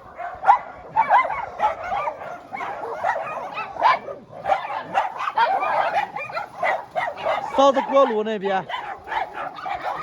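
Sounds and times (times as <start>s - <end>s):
dogs barking and yipping: 0.0s - 10.0s.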